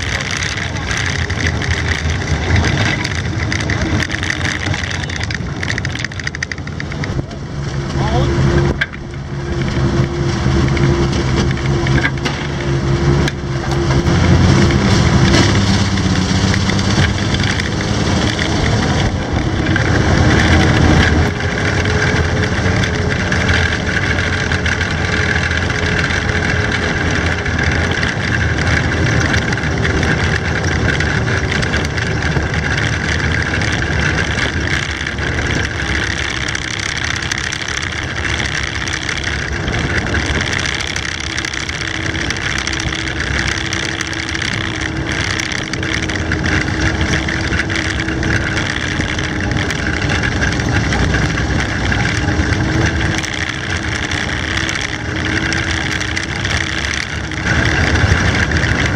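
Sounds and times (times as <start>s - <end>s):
clatter of vehicle tracks: 0.0s - 58.9s
vehicle engine running: 0.0s - 58.9s.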